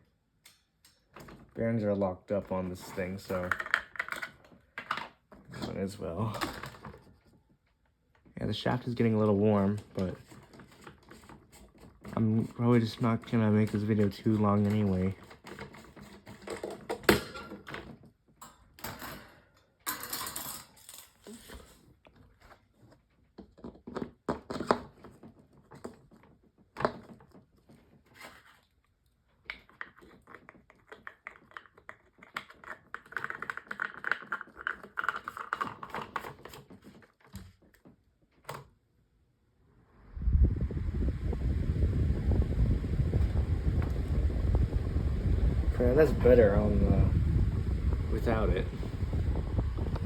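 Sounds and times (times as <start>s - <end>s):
plastic fan parts clicking and clattering: 0.4s - 38.8s, 43.1s - 50.0s.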